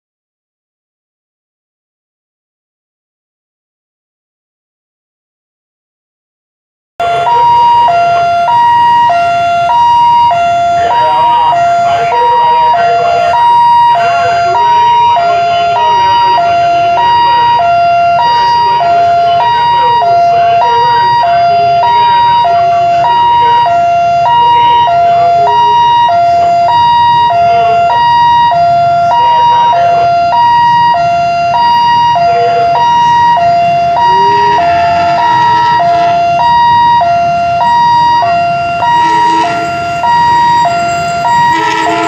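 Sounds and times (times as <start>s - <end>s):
level crossing two-tone alarm: 7.0s - 42.0s.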